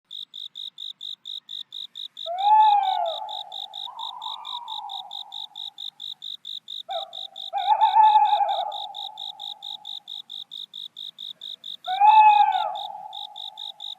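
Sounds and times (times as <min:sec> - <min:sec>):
crickets chirping: 0:00.1 - 0:13.9.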